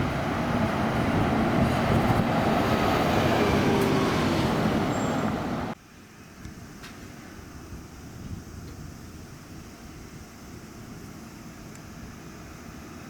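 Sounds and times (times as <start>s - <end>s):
bus engine and tyre noise: 0.0s - 5.8s, 6.6s - 13.0s.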